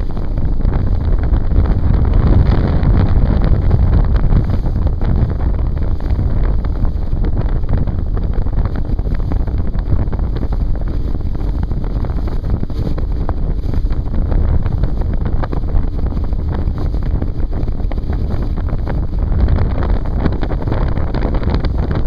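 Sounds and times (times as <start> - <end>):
boat running noise: 0.0 - 22.0
wind buffeting microphone: 0.0 - 22.0.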